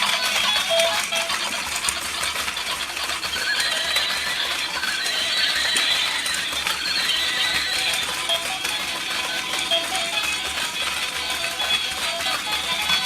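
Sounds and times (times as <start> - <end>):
toy horse electronic neigh: 0.0 - 11.8
toy walking mechanism clicking: 0.0 - 13.0.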